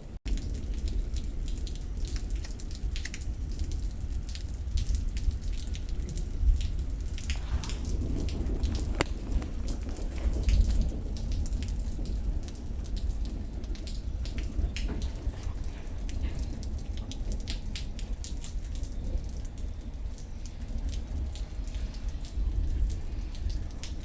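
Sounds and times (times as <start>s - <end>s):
low thunder rumble: 0.0s - 24.0s
steady rain hiss: 0.0s - 24.0s
raindrops ticking on hard surface: 0.2s - 24.0s.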